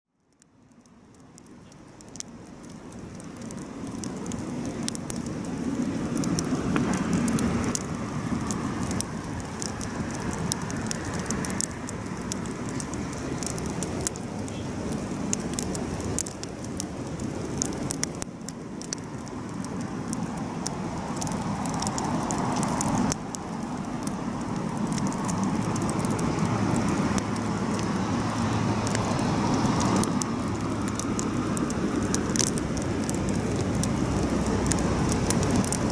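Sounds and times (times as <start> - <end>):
campfire crackling: 0.1 - 35.9.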